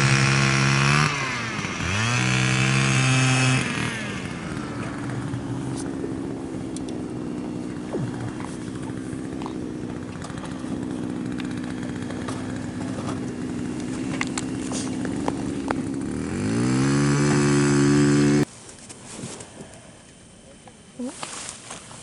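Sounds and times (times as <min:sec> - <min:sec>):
small gas engine running: 0:00.0 - 0:18.5.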